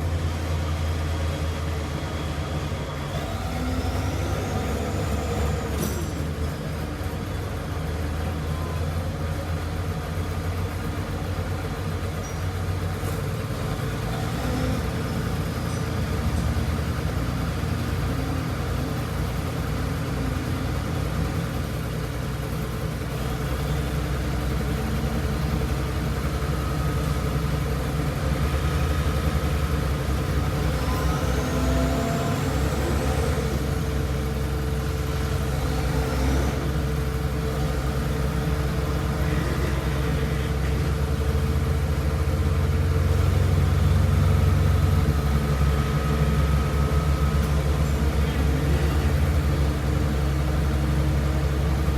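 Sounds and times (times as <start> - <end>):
diesel engine rumble: 0.0 - 51.9.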